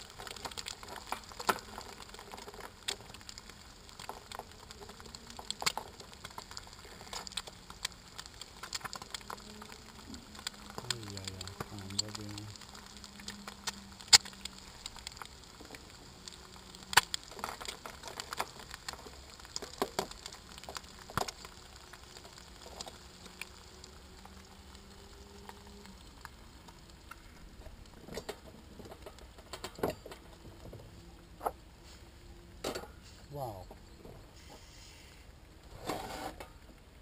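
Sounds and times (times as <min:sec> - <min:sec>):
eggs frying in a pan: 0:00.0 - 0:35.7, 0:36.4 - 0:37.0.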